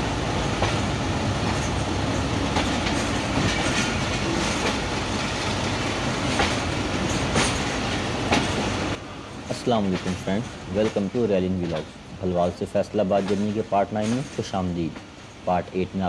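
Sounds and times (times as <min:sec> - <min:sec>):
train wheels rumbling on track: 0:00.0 - 0:16.0
wheels clicking over rail joints: 0:00.0 - 0:16.0.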